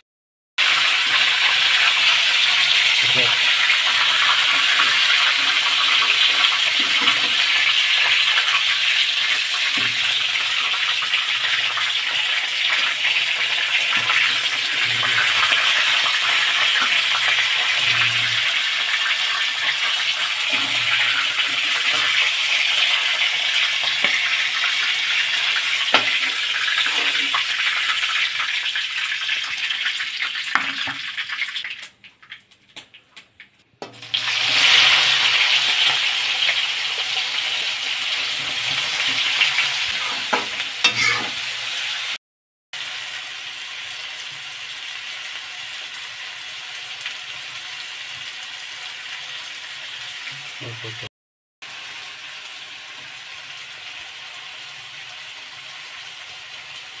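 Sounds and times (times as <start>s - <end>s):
chicken sizzling in oil: 0.6s - 32.4s, 33.9s - 42.2s, 42.8s - 57.0s.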